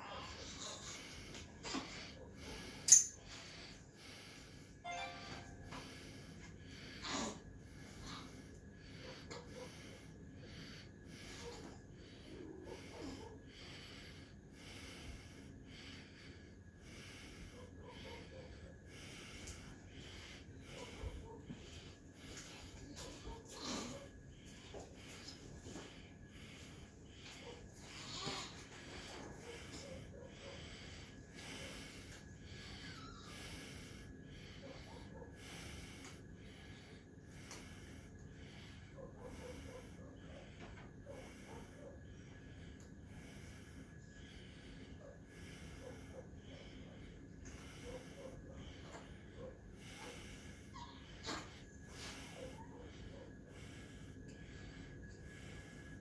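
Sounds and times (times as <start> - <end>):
wheezy breathing: 0.0 - 56.0.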